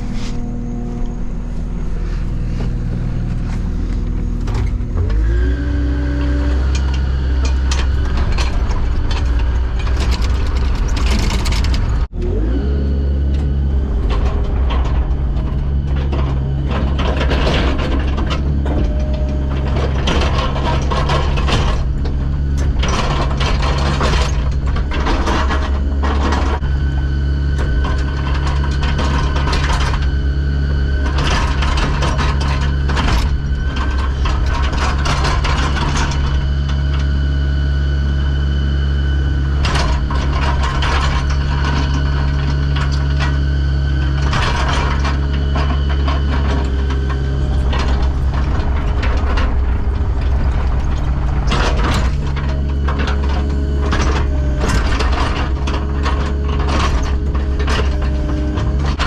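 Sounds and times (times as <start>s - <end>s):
diesel engine running under load: 0.0s - 59.0s
clanks from loading rock: 6.1s - 12.4s, 13.3s - 37.3s, 39.5s - 59.0s.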